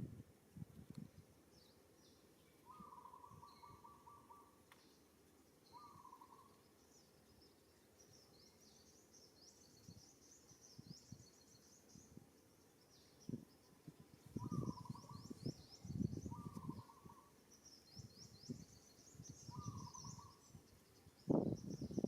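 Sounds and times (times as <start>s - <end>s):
bird calls: 1.6s - 22.0s.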